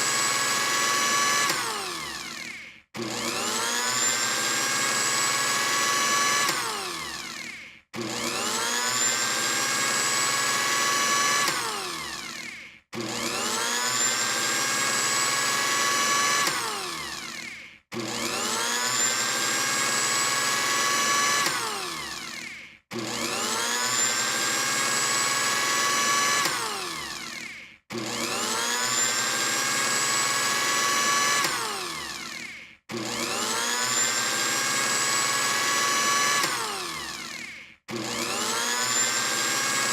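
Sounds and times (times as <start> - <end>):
electric blender motor whining: 0.0 - 39.9.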